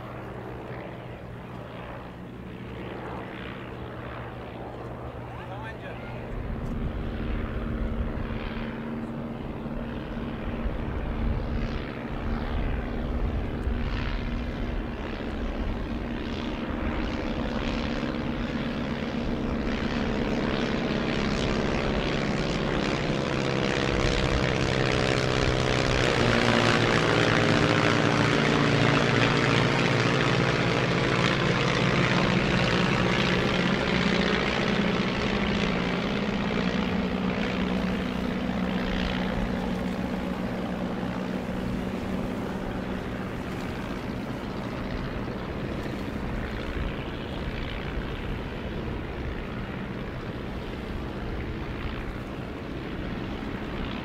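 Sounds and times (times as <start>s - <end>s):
biplane engines flying over: 0.0s - 54.0s.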